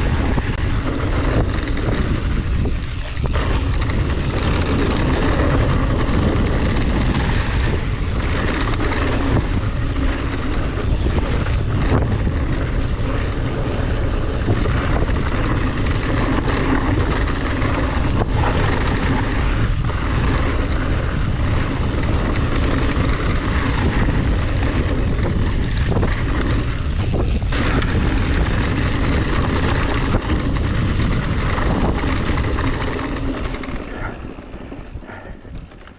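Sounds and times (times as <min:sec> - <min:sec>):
wind on microphone: 0:00.0 - 0:35.9.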